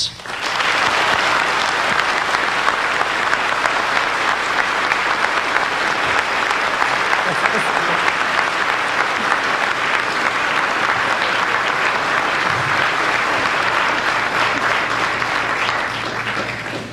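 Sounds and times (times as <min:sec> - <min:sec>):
crowd applauding: 0:00.0 - 0:16.9.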